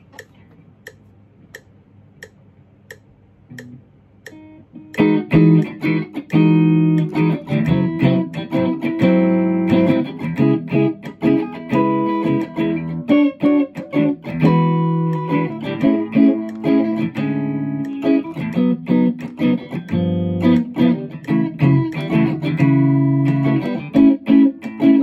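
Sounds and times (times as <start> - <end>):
electric guitar chords and notes: 3.6 - 25.0.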